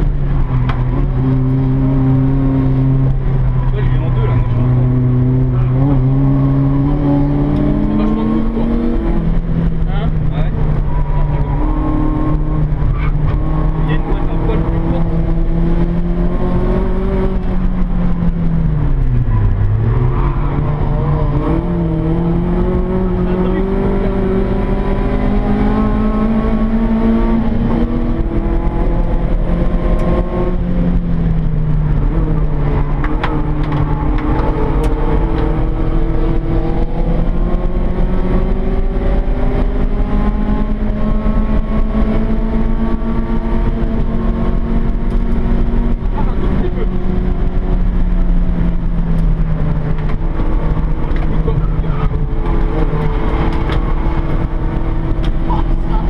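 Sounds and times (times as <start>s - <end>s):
car engine revving from inside cabin: 0.8s - 10.8s, 11.5s - 56.0s.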